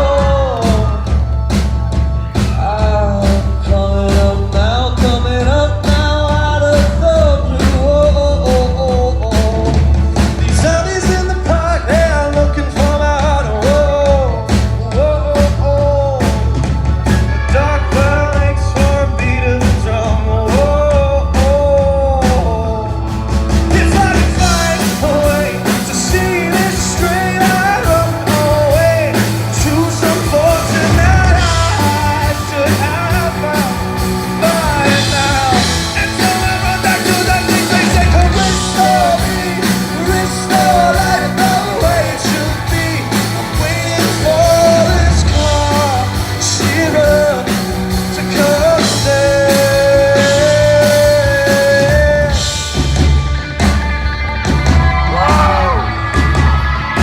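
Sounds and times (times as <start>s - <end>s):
bass guitar: 0.0s - 57.0s
drums: 0.0s - 57.0s
electric guitar: 0.0s - 57.0s
person singing: 0.0s - 57.0s.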